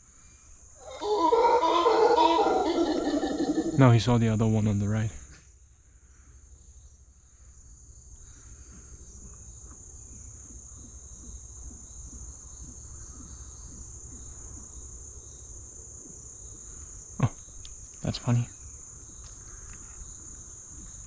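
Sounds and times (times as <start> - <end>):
insects droning high-pitched: 0.0 - 21.0.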